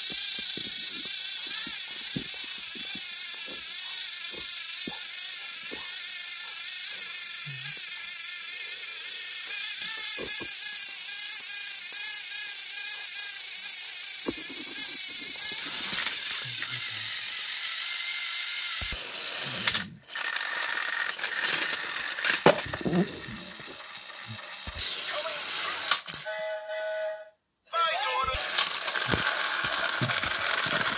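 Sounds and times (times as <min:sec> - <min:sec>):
wheels grinding on plastic track: 0:00.0 - 0:26.3, 0:28.4 - 0:30.9
toy train motors whirring: 0:00.0 - 0:26.4, 0:27.8 - 0:30.9.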